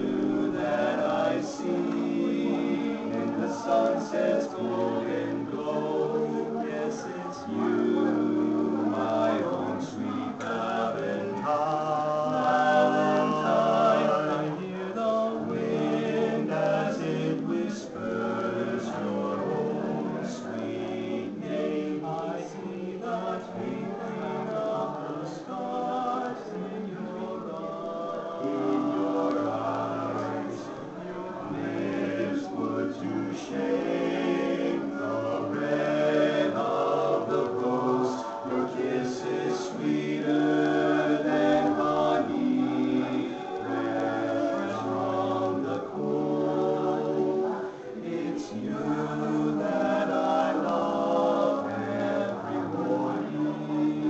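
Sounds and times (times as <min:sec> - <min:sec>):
men singing a cappella harmony: 0:00.0 - 0:54.0.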